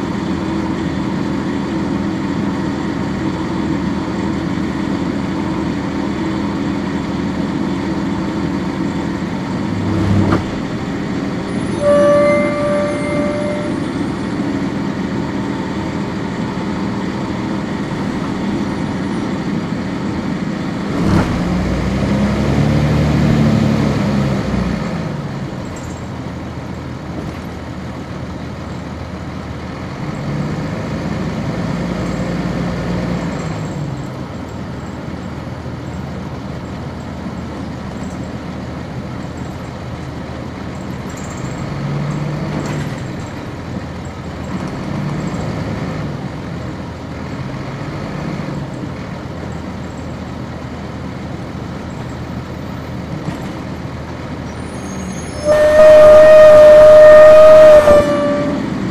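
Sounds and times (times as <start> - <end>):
bus diesel engine droning: 0.0 - 58.9.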